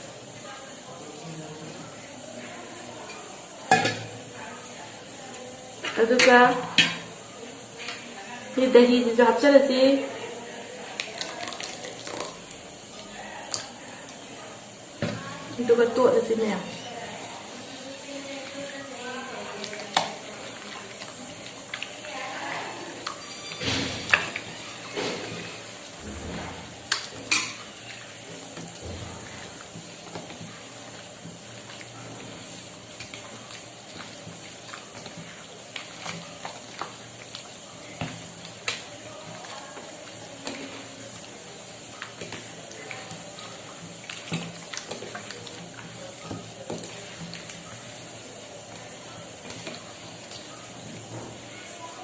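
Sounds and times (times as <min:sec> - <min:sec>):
meat sizzling in a pot: 0:00.0 - 0:52.0.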